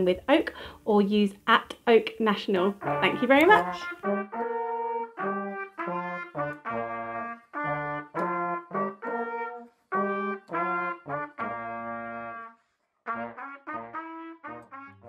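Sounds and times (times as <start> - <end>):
brass instrument playing a tune: 2.7 - 15.0.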